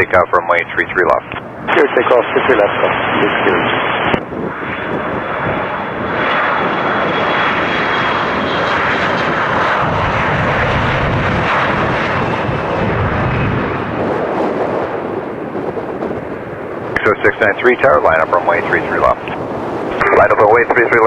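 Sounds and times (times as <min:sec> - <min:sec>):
jet engines roaring at takeoff: 0:00.0 - 0:21.0
deep rumble: 0:00.2 - 0:21.0.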